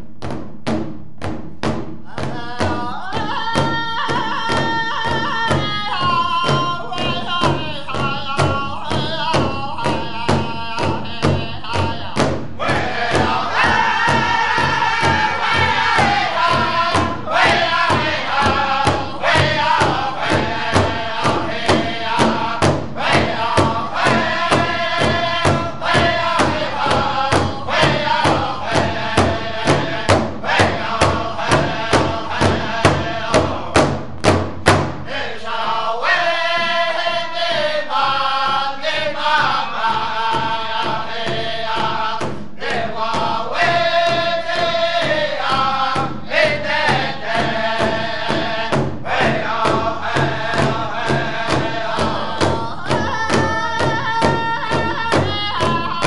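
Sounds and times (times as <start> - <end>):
large hide drum beating: 0.0 - 35.4, 36.5 - 56.0
men singing together: 2.1 - 33.9, 35.0 - 56.0.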